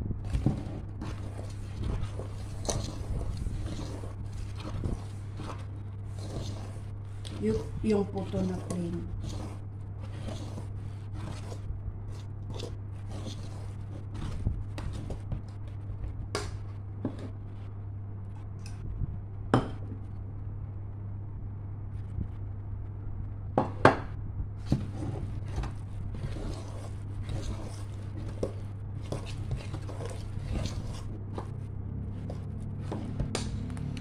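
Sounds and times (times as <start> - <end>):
hand kneading batter in pot: 0.0 - 17.8, 24.6 - 34.0
steady low hum: 0.0 - 34.0.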